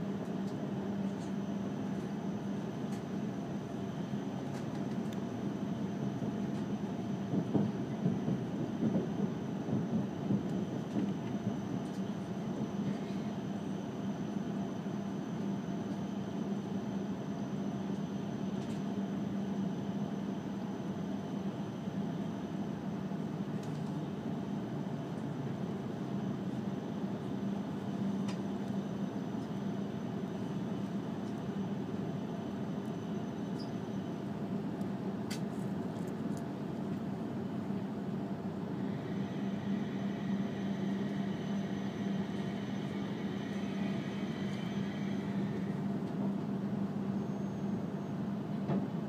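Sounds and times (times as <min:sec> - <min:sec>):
train cabin rumble and hum: 0:00.0 - 0:49.0.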